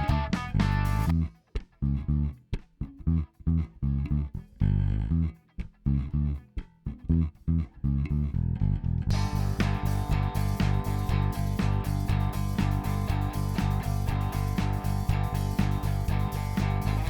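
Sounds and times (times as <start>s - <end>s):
electric bass plucked notes: 0.0s - 17.0s.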